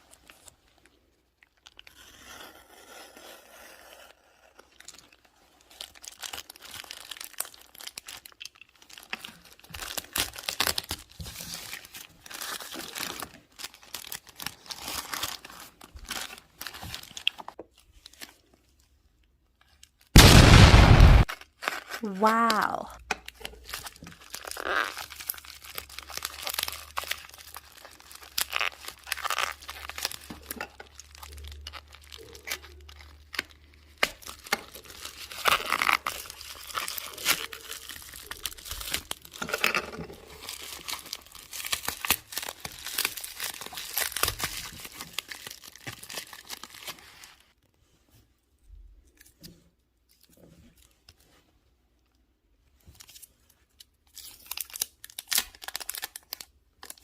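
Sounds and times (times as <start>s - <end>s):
crinkling and tearing: 0.0s - 18.9s, 19.5s - 48.2s, 49.0s - 52.1s, 52.7s - 57.0s.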